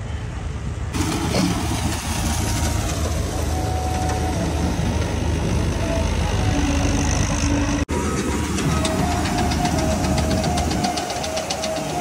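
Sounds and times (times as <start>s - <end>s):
tractor diesel engine running: 0.9s - 12.0s.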